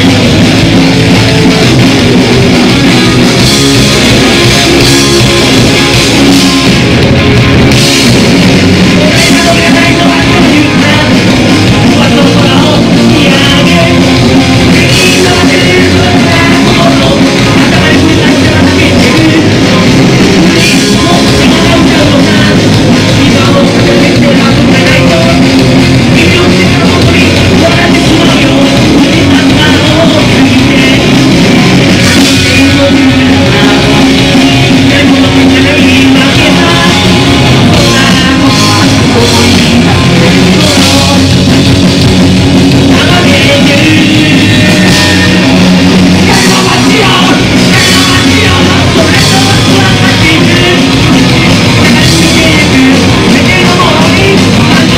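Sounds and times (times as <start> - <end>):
bass guitar: 0.0 - 54.9
drum kit: 0.0 - 54.9
electric guitars: 0.0 - 54.9
shouted lead vocal: 0.0 - 54.9.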